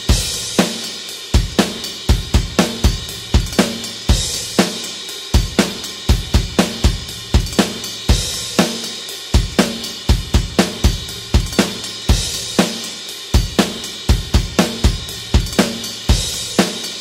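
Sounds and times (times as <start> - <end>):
rock drum kit beat: 0.0 - 17.0.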